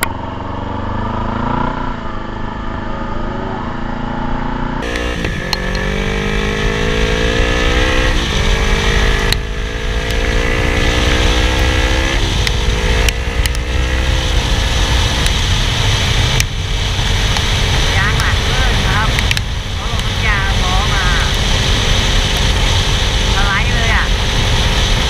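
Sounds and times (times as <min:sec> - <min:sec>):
motorcycle engine accelerating: 0:00.0 - 0:25.0
wind and road noise: 0:00.0 - 0:25.0.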